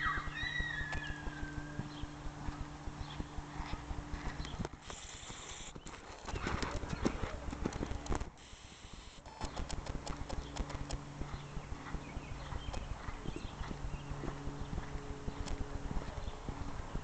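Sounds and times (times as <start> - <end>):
horse hooves cantering on sand: 0.0 - 8.4, 9.4 - 17.0
steady low hum: 0.0 - 17.0.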